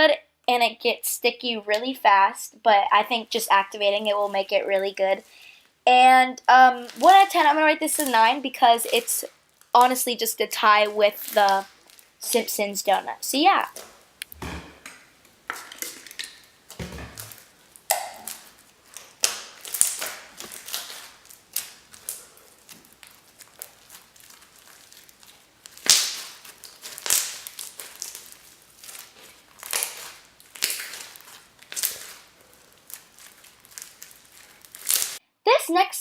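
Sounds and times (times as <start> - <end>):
crunching crackling slime: 2.9 - 14.3, 15.3 - 35.2.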